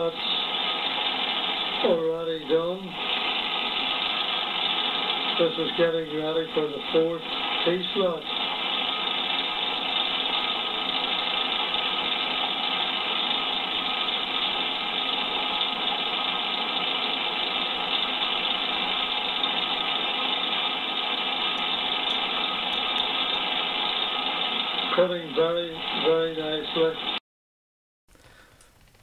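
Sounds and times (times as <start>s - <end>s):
milling machine drone: 0.0s - 27.2s.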